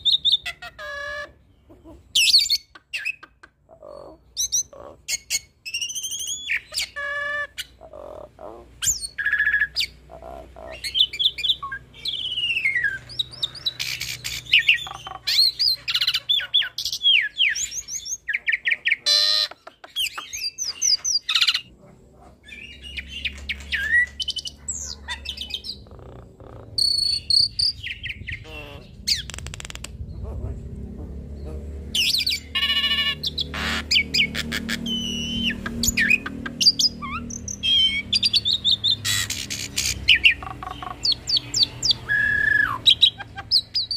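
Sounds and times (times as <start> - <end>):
starling singing: 0.0 - 21.8, 22.4 - 30.5, 31.3 - 43.9
bird whistles trills and chatter: 2.2 - 7.8, 8.8 - 10.0, 10.7 - 21.7, 22.5 - 25.9, 26.8 - 29.8, 32.0 - 43.9.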